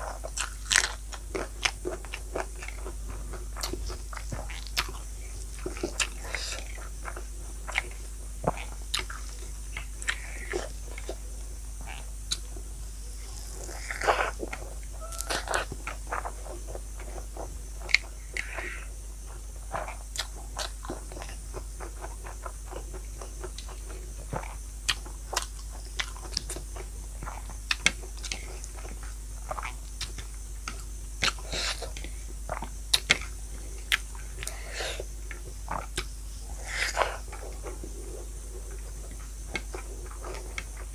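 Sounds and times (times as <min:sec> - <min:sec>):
person eating crunchy food: 0:00.0 - 0:11.2, 0:11.8 - 0:40.9
faint low hum: 0:00.0 - 0:40.9.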